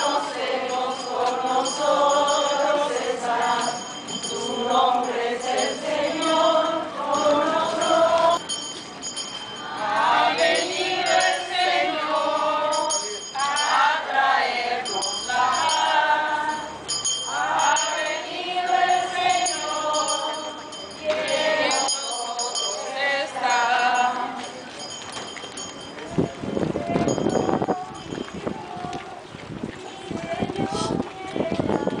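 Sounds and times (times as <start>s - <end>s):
crowd singing a hymn: 0.0s - 8.5s, 9.4s - 24.6s, 26.5s - 32.0s.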